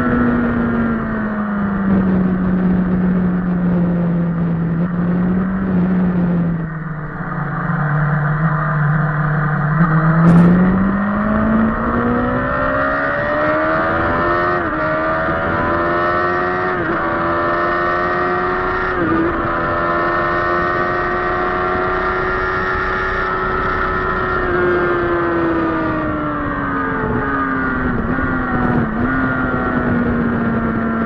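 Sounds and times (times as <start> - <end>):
wind rush: 0.0 - 21.9, 22.5 - 31.0
motorcycle engine accelerating: 0.0 - 31.0.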